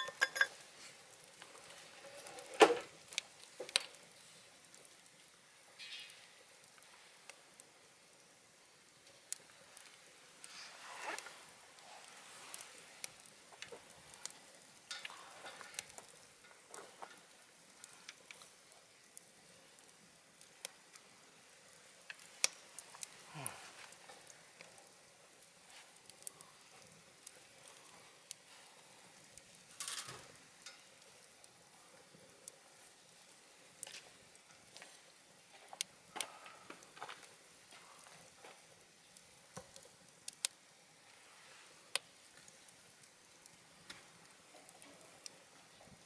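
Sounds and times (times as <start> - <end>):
fire hissing: 0.0 - 46.0
wood fire crackling and popping: 0.0 - 46.0.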